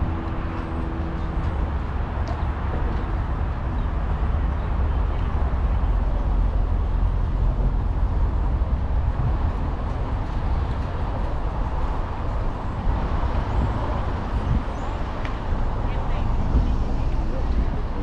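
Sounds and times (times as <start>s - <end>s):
road traffic noise: 0.0s - 18.0s
wind rumble on microphone: 0.0s - 18.0s.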